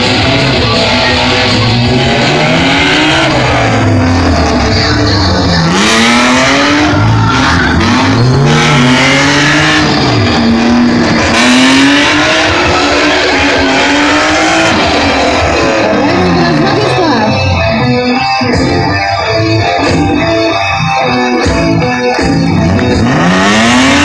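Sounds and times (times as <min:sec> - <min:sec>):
engine revving hard: 0:00.0 - 0:17.8, 0:22.2 - 0:24.0.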